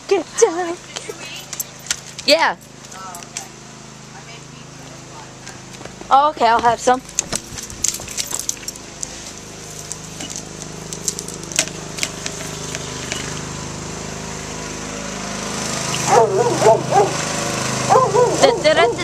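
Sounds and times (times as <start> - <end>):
lawnmower engine running: 0.0 - 19.0.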